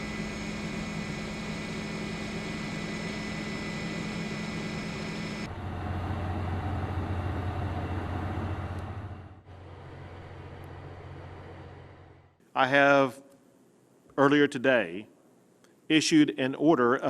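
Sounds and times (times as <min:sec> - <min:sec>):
steady mechanical hum: 0:00.0 - 0:14.2.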